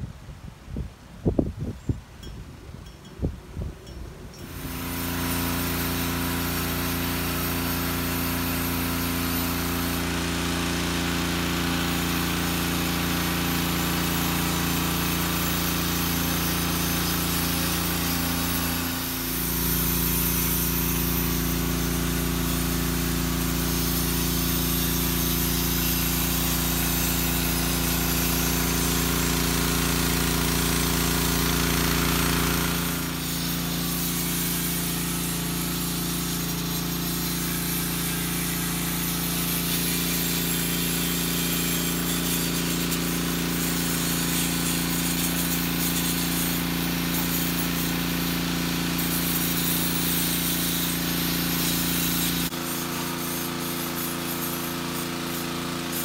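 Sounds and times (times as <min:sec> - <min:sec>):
pump droning: 0:02.0 - 0:56.0.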